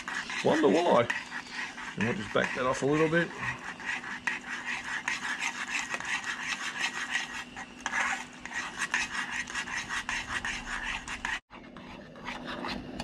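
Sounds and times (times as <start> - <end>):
spoon stirring mashed potato: 0.0 - 13.0.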